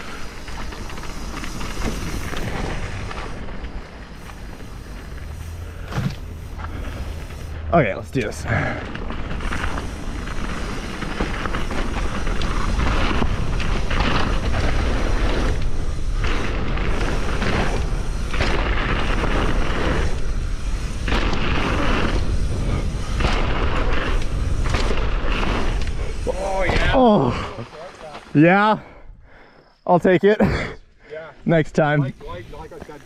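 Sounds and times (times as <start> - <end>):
bike tyres rumbling on dirt: 0.0 - 33.0.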